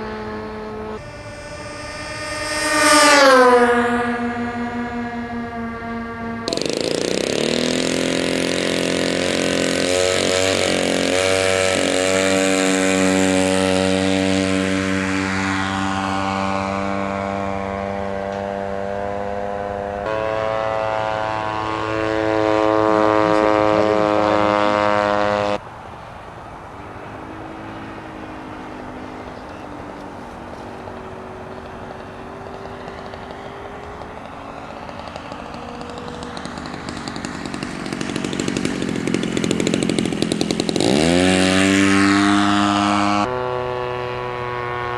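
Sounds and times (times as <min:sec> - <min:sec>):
model airplane motor and propeller: 0:00.0 - 0:44.9.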